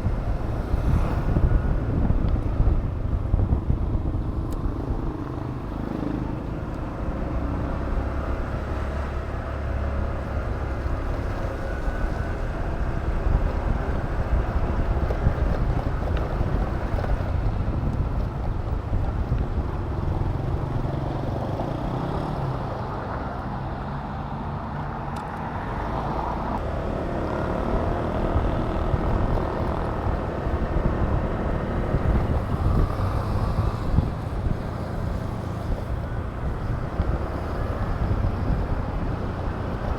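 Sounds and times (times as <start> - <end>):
scooter engine running: 0.0 - 22.6, 26.6 - 39.9
wind rushing on microphone: 0.0 - 39.9.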